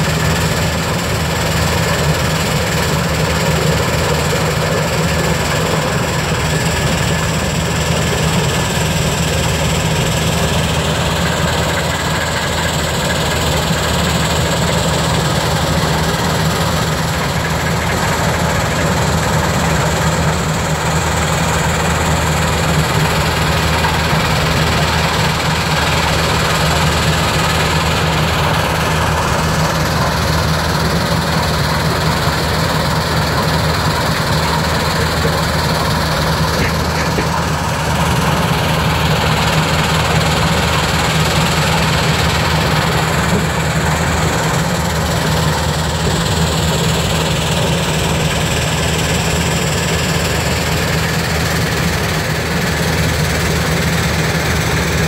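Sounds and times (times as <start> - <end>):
diesel engine drone: 0.0 - 55.0
crushed stone rattling on conveyors: 0.1 - 55.0.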